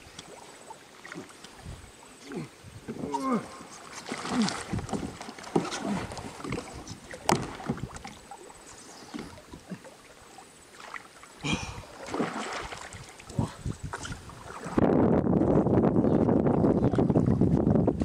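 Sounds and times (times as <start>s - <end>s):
light water splashes: 0.0s - 14.8s.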